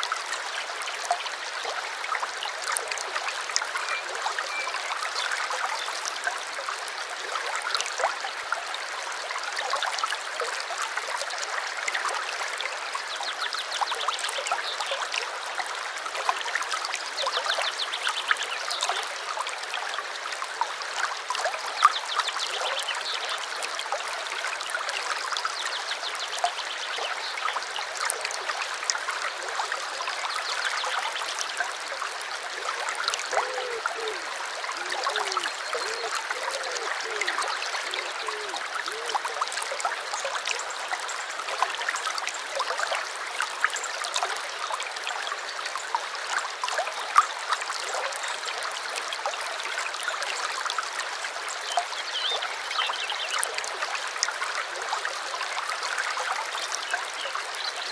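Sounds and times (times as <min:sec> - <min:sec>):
stream trickling over stones: 0:00.0 - 0:57.9.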